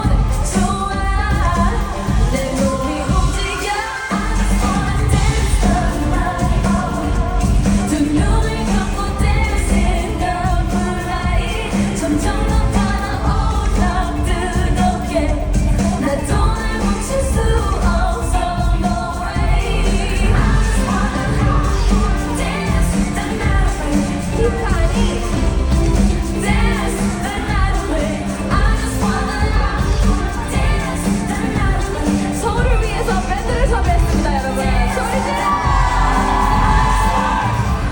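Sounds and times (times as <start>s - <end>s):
pop band track with heavy bass: 0.0s - 37.9s
woman singing: 0.0s - 37.9s.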